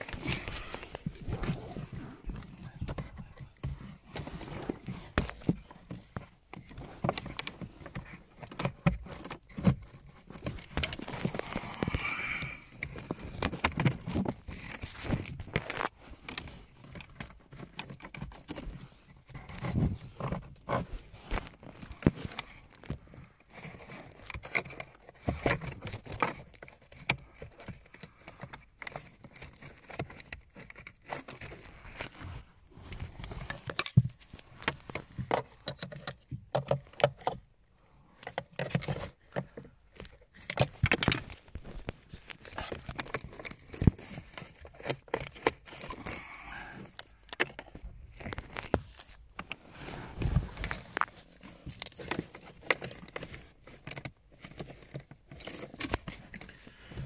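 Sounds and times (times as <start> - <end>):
plastic parts clicking and rustling: 0.0 - 57.0.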